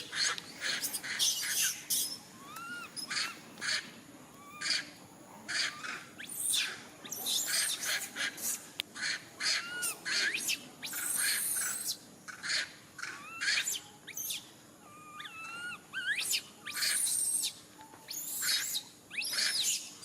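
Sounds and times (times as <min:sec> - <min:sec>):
baby monkey squealing: 0:00.0 - 0:03.8, 0:05.5 - 0:17.5, 0:18.1 - 0:19.9.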